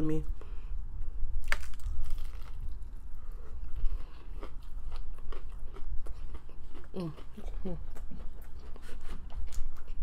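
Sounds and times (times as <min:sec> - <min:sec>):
chewing crunchy fried food: 0:01.4 - 0:10.0.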